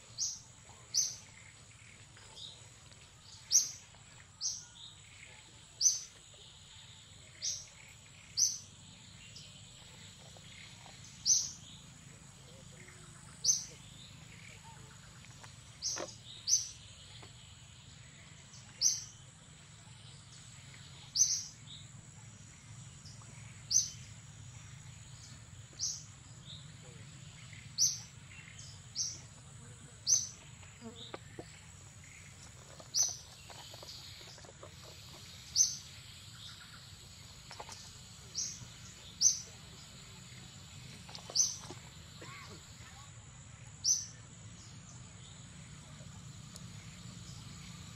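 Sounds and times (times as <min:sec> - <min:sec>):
bird chirping: 0:00.0 - 0:43.1.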